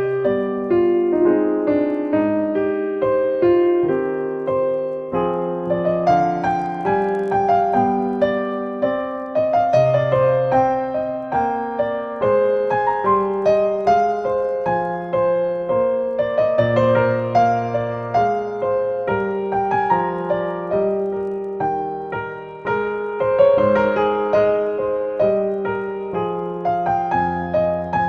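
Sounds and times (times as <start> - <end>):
piano notes and chords: 0.0 - 28.0.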